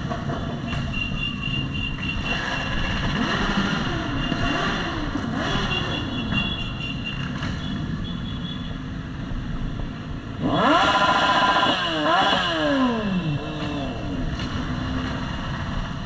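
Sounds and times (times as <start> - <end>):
motorcycle engine revving: 0.0 - 8.2, 10.3 - 16.0
engines idling: 0.0 - 16.0.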